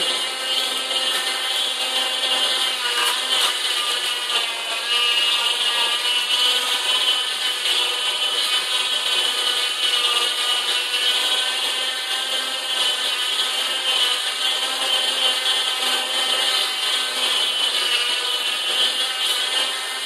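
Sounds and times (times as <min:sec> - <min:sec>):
juicer motor hum: 0:00.0 - 0:20.0.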